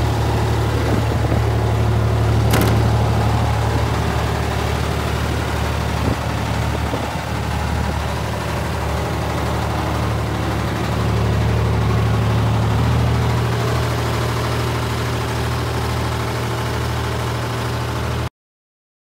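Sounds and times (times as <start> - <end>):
diesel engine idling: 0.0 - 18.3.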